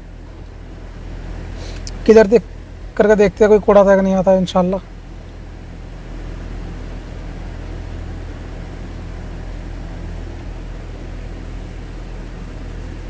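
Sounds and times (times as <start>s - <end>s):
steady low hum with hiss: 0.0s - 13.0s.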